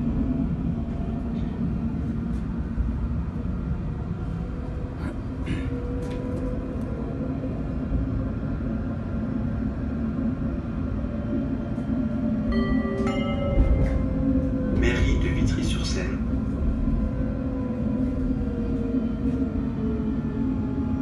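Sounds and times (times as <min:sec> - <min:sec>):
tram rumbling: 0:00.0 - 0:21.0.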